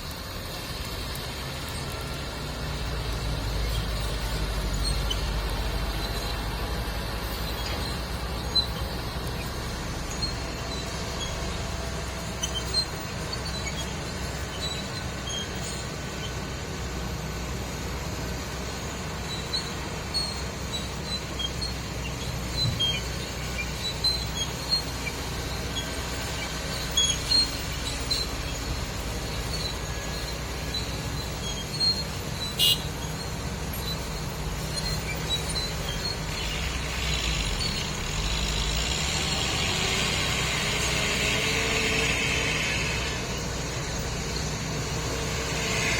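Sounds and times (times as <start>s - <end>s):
truck engine droning: 0.0s - 45.9s.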